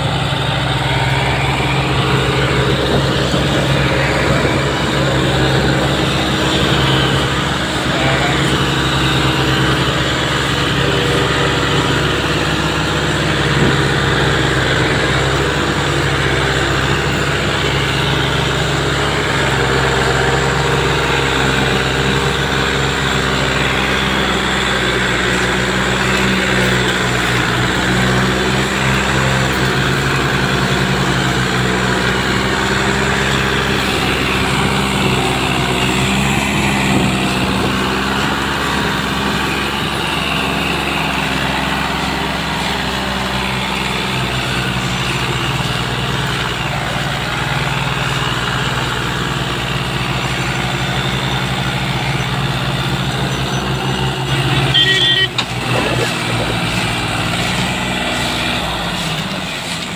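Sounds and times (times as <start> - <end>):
tractor diesel engines running hard: 0.0 - 59.9.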